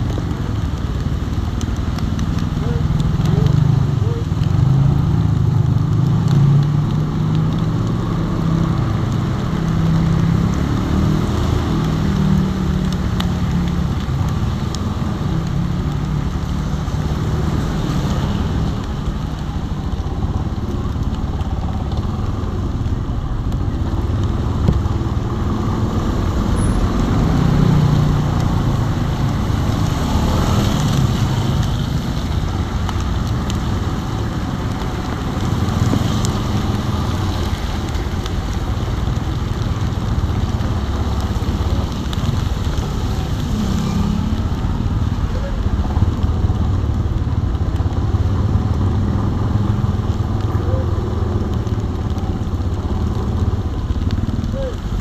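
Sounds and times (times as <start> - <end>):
rain hiss and tyre spray: 0.0 - 55.0.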